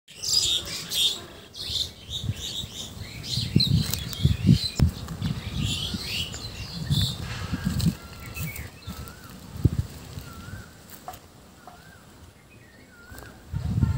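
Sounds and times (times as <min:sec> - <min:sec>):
songbirds chirping and trilling: 0:00.1 - 0:13.9.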